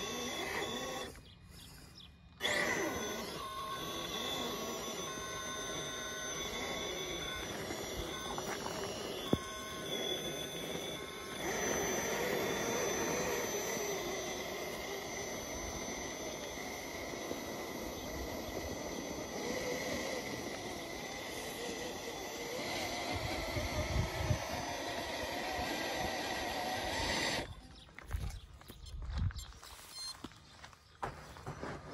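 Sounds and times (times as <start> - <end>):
rc car motor whining: 0.0 - 29.0.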